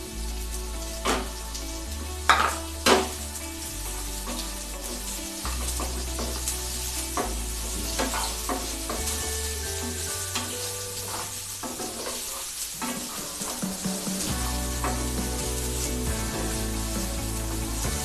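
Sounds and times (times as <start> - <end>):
onions sizzling in hot oil: 0.0 - 18.0
quiet background music: 0.0 - 18.0.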